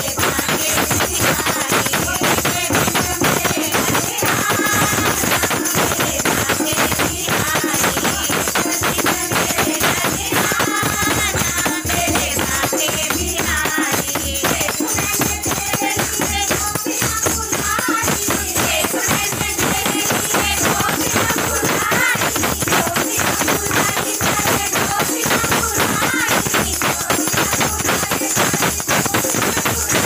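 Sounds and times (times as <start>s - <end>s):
group singing devotional song: 0.0s - 30.0s
jingling hand percussion: 0.0s - 30.0s.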